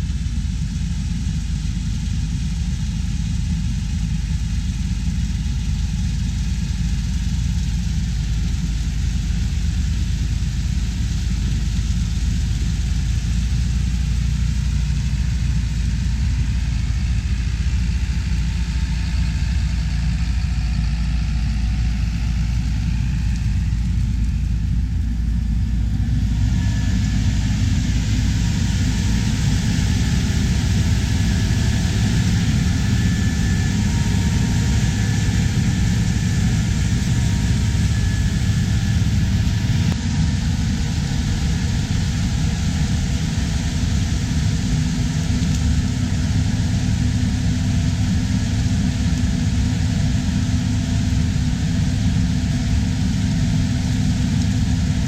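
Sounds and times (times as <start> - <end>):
heavy machinery engine rumble: 0.0 - 55.0.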